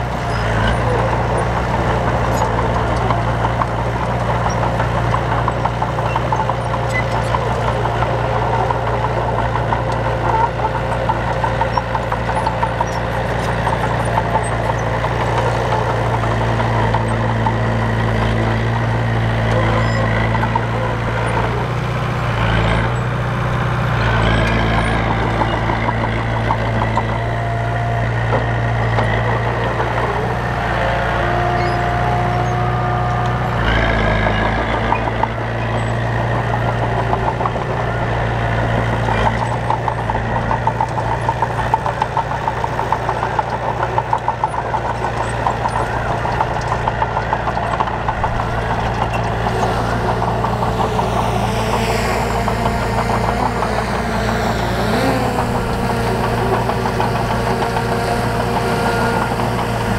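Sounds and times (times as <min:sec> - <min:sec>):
heavy diesel machinery engine drone: 0:00.0 - 0:59.9.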